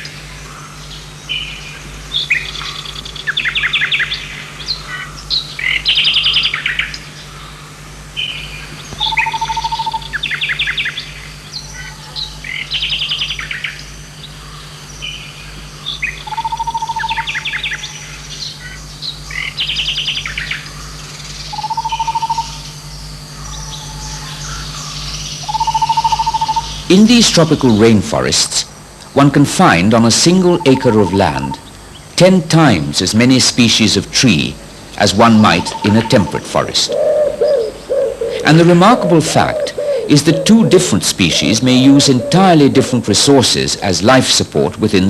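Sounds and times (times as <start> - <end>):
low hum: 0.0 - 44.3
birds trilling: 0.0 - 45.0.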